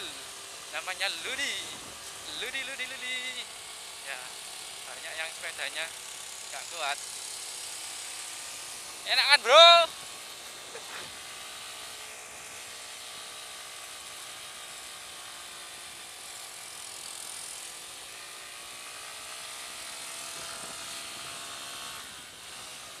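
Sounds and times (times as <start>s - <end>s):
motorcycle engine under load: 0.0s - 23.0s.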